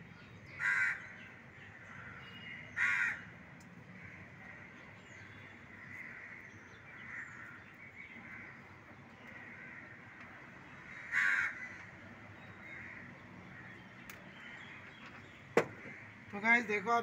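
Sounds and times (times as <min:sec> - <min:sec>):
crows cawing: 0:00.6 - 0:13.8, 0:15.6 - 0:17.0.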